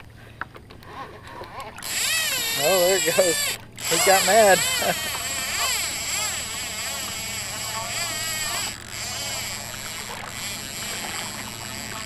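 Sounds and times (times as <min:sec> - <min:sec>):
fishing reel drag buzzing: 0:01.8 - 0:12.0.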